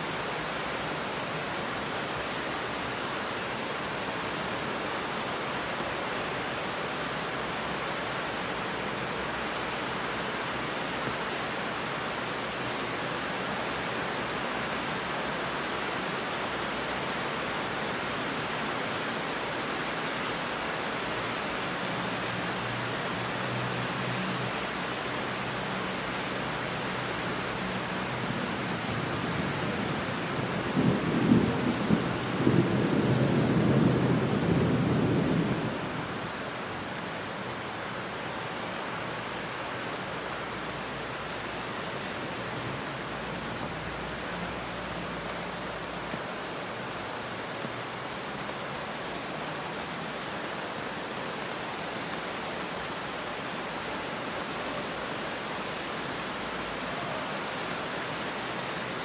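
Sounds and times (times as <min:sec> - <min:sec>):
heavy rain on road and trees: 0:00.0 - 0:59.0.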